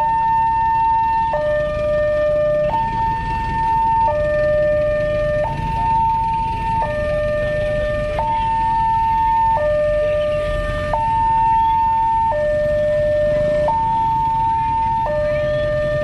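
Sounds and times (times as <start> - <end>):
two-tone crossing alarm: 0.0 - 16.0.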